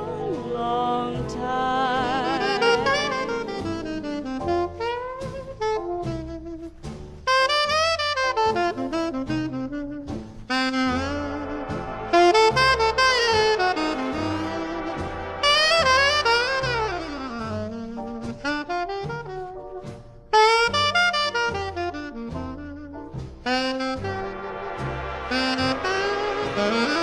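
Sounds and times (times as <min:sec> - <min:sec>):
bass line: 0:00.0 - 0:27.0
solo horn melody: 0:00.0 - 0:27.0.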